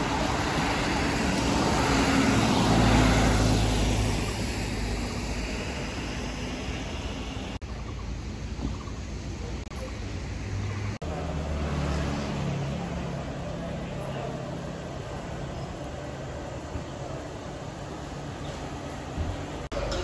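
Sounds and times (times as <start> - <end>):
steady traffic hum: 0.0 - 20.0
vehicle engine noise: 0.0 - 20.0.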